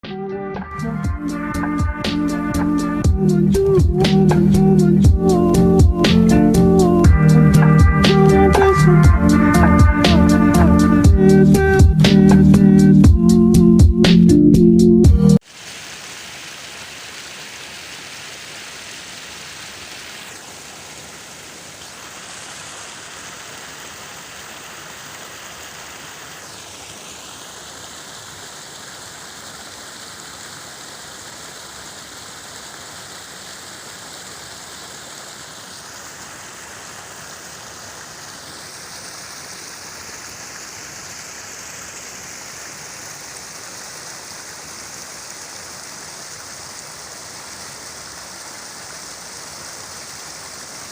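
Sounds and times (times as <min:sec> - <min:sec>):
falling water splashing: 0:00.6 - 0:12.7, 0:15.4 - 0:50.9.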